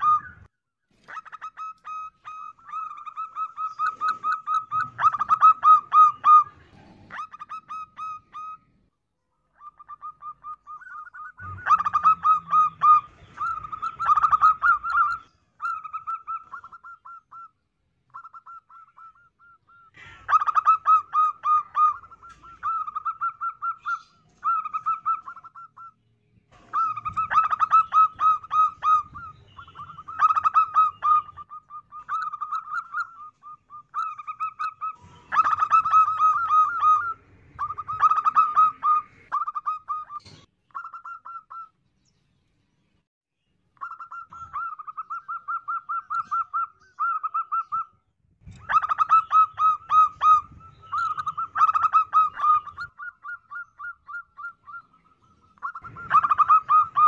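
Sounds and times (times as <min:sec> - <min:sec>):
dove cooing trills: 0:00.0 - 0:08.8, 0:09.5 - 0:41.7, 0:43.8 - 0:57.0.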